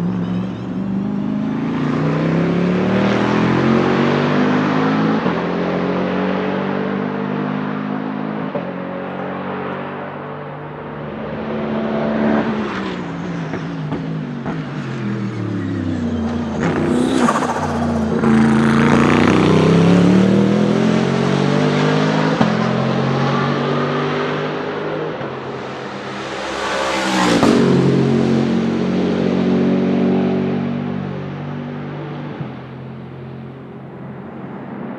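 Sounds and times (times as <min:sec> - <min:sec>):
race car engine passing: 0:00.0 - 0:34.9.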